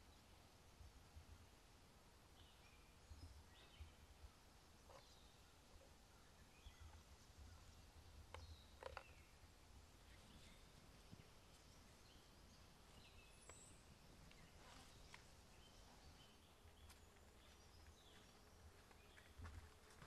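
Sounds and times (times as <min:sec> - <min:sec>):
faint bird chirps: 0:02.4 - 0:19.4.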